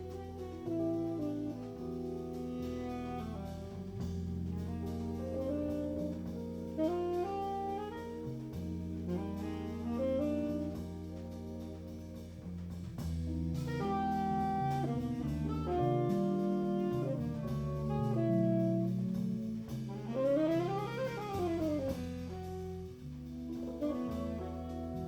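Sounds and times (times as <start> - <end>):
saxophone melody: 0.0 - 11.8, 13.6 - 23.0, 23.7 - 25.0
walking bass notes: 0.0 - 25.0.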